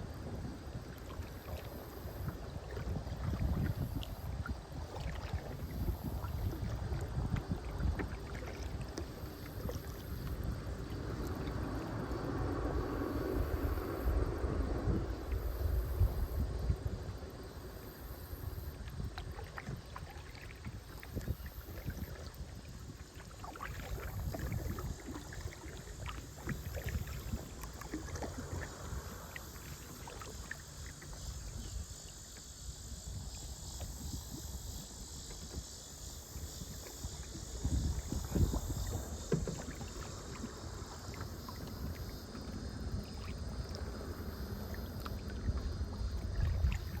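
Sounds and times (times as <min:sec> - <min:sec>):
kayak paddle splashing water: 0:00.0 - 0:47.0
wind rumble on microphone: 0:00.0 - 0:47.0.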